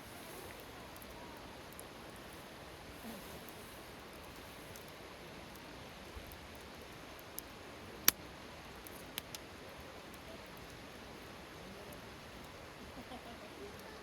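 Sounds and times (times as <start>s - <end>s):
campfire crackling: 0.0s - 14.0s
fire popping: 0.0s - 14.0s.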